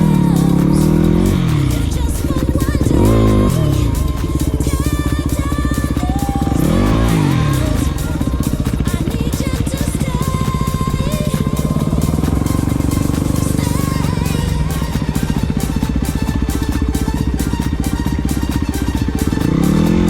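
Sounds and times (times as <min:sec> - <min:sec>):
background music: 0:00.0 - 0:20.0
motorcycle engine revving: 0:00.0 - 0:20.0.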